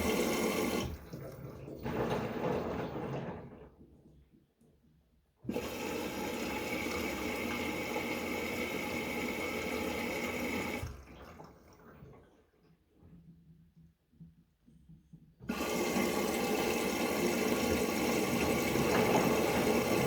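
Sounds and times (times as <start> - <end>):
water rushing into washing machine: 0.0 - 3.8, 5.4 - 13.1, 15.4 - 20.0.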